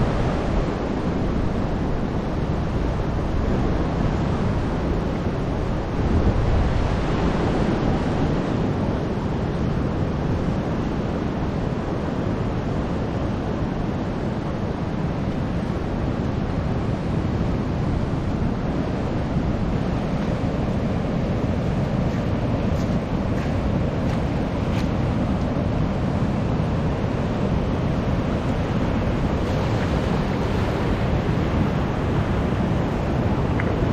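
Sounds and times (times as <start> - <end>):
ocean surf washing in: 0.0 - 33.9
wind buffeting microphone: 0.0 - 33.9.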